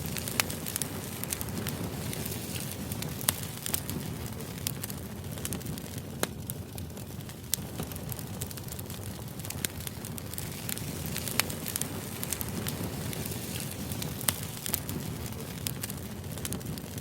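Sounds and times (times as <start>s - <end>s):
fire crackling with pops: 0.0s - 17.0s.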